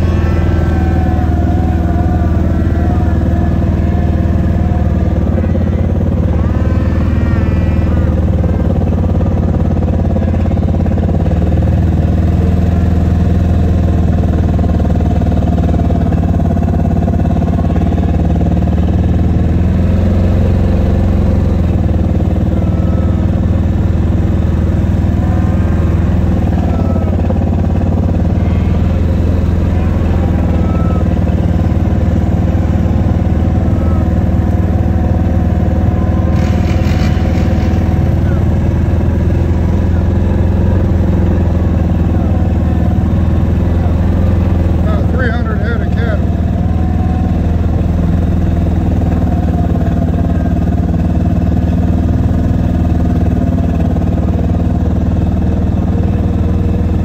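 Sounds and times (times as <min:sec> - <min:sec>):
utility vehicle engine running: 0:00.0 - 0:57.0.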